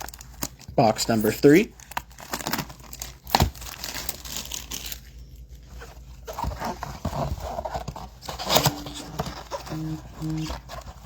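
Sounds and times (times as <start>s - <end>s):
cardboard and foil packs rustling: 0.0s - 11.0s.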